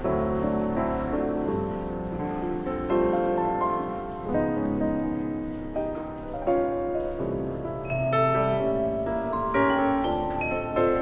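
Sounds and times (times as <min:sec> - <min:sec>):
piano background music: 0:00.0 - 0:11.0.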